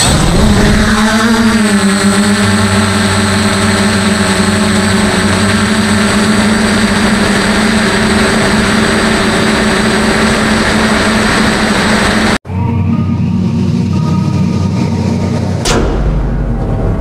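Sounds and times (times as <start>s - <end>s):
quadcopter motors buzzing: 0.0s - 15.6s.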